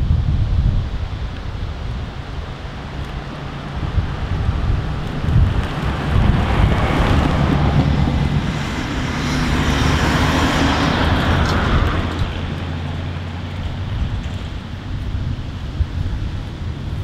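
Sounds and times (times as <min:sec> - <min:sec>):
car engine rumble: 0:00.0 - 0:17.0
tyre and road noise: 0:00.0 - 0:17.0.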